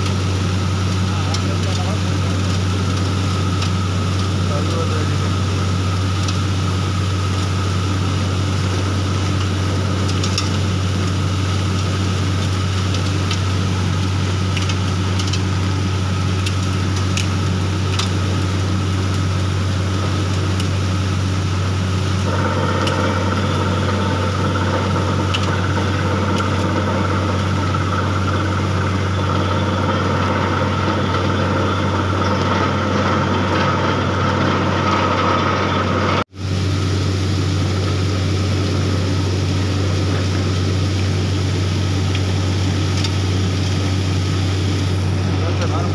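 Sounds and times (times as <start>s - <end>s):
drilling rig engine drone: 0.0s - 45.9s.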